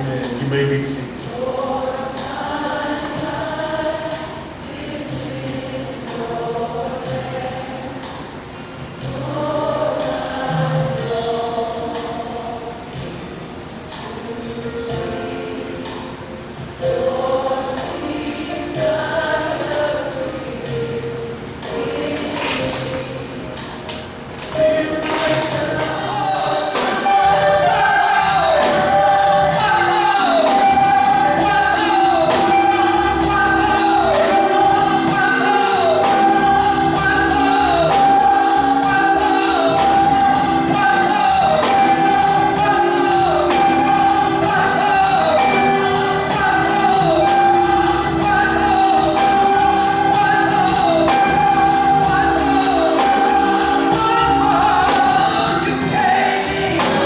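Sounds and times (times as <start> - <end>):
gospel singing over a beat: 0.0 - 57.0.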